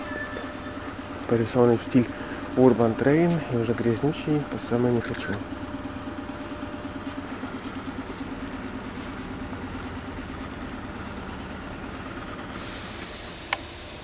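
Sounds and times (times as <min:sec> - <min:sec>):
machinery idling: 0:00.0 - 0:14.0.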